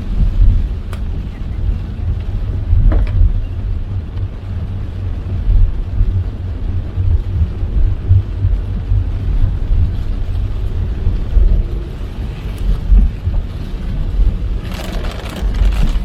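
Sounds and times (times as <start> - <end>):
car road rumble: 0.0 - 16.0
hiss of rain: 0.0 - 16.0.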